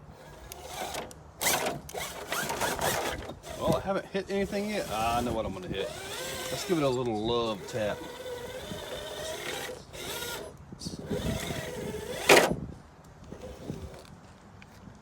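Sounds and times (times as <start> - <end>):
electric motor and gears whining: 0.0 - 12.7, 13.3 - 14.1.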